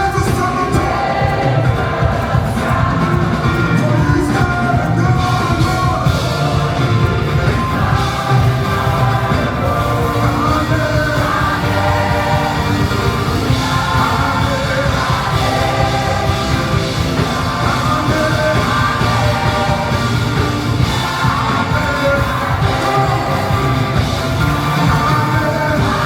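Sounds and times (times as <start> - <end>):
live band playing gospel music: 0.0 - 26.0
singing: 0.0 - 26.0.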